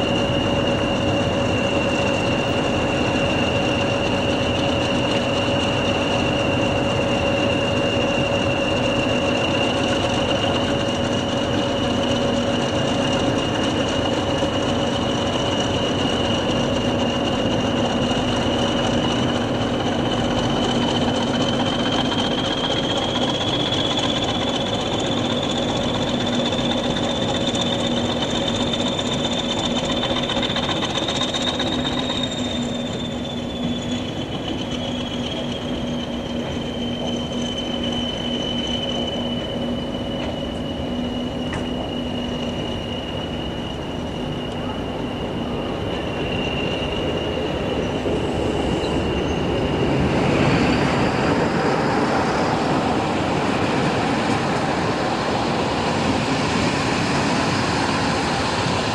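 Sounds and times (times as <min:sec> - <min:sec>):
approaching train rushing: 0:00.0 - 0:58.9
train wheel squeal: 0:00.0 - 0:58.9.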